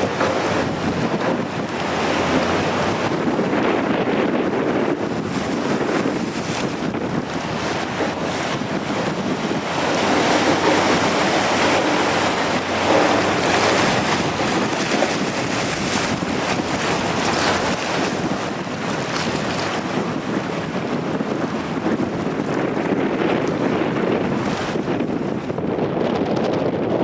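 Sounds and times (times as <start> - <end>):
strong wind buffeting microphone: 0.0 - 27.0
surf washing: 0.0 - 27.0.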